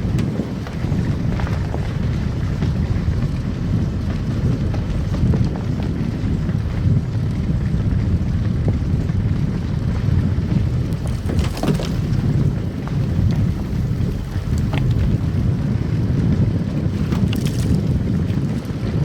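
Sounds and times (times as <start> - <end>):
tyre and road rumble: 0.0 - 19.0.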